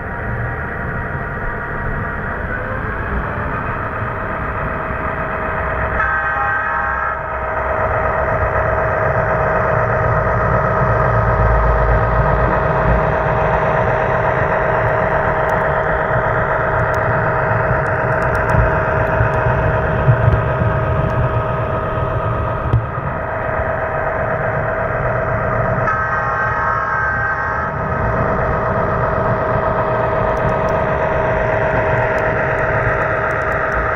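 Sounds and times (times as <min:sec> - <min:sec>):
diesel engine sound from small speaker: 0:00.0 - 0:33.9.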